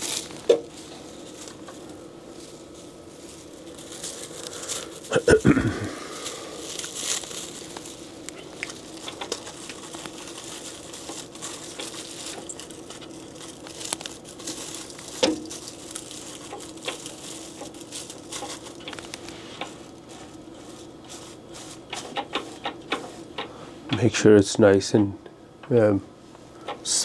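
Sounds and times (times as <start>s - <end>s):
plastic film crinkling: 0.0s - 23.5s
faint steady hum: 0.0s - 27.0s.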